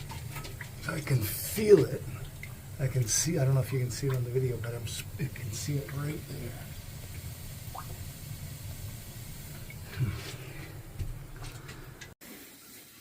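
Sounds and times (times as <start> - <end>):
water hissing from pipe leak: 0.0 - 13.0.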